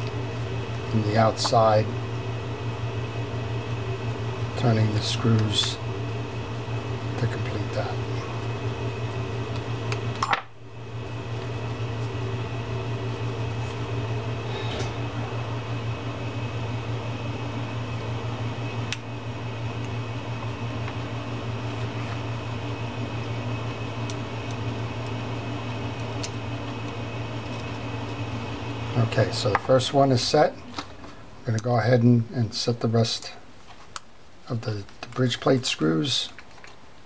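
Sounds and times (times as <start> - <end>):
low hum: 0.0 - 32.3.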